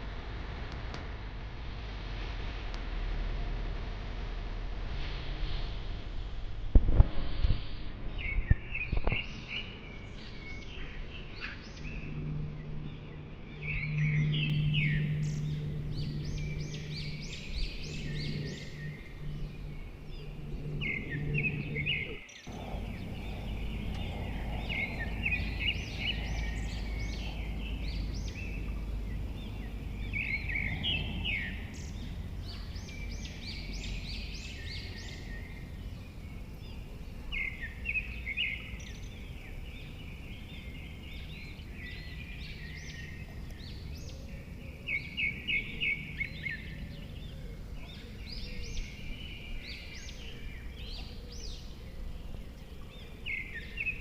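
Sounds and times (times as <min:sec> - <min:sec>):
low outdoor rumble: 0:00.0 - 0:54.0
songbirds singing and chirping: 0:07.4 - 0:54.0.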